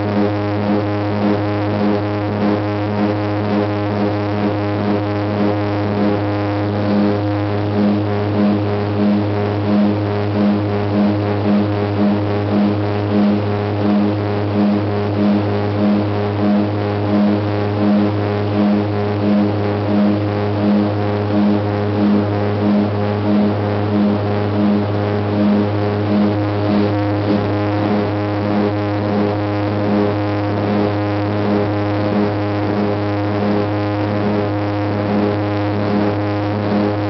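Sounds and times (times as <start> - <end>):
turboprop cabin drone: 0.0 - 37.0.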